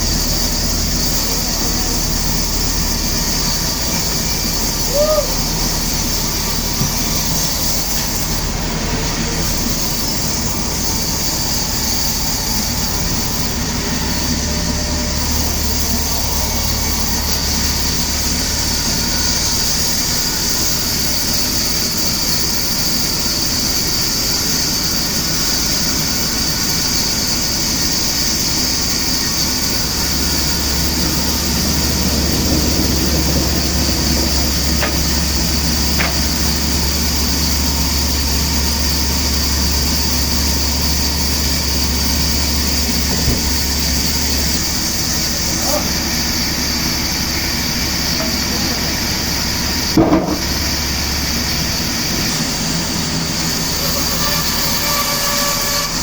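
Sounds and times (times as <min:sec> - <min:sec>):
low machinery hum: 0:00.0 - 0:56.0
sawmill machinery hissing: 0:00.0 - 0:56.0.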